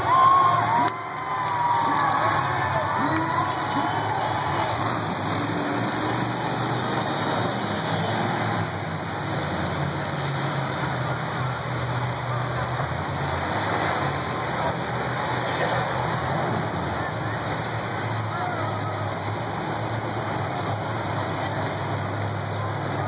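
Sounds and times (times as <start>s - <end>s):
monster truck engines running: 0.0s - 23.0s.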